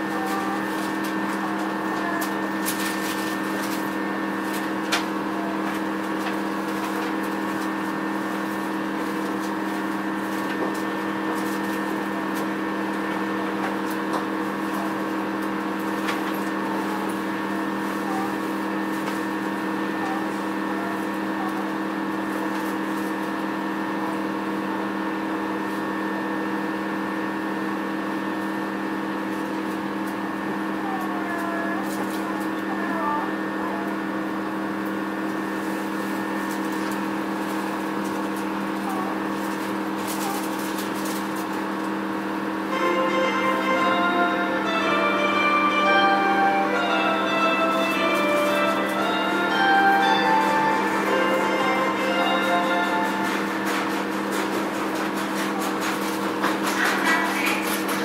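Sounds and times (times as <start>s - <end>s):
train electrical hum: 0.0s - 58.0s.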